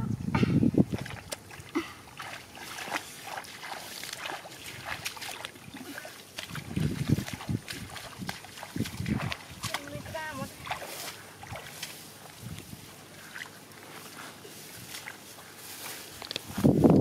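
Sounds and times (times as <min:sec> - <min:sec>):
grass rustling and crackling: 0:00.8 - 0:17.0
shallow water splashing: 0:00.9 - 0:16.2.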